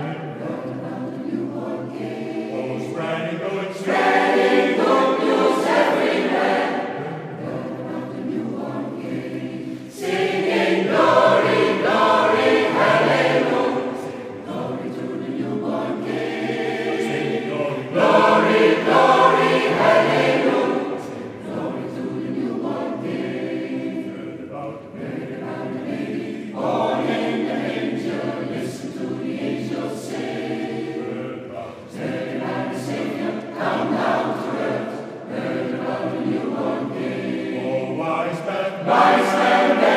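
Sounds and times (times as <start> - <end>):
mixed choir singing: 0.0 - 39.9.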